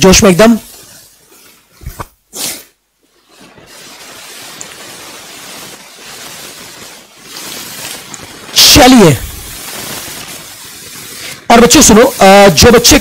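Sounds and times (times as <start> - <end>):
microphone background hiss: 0.0 - 13.0.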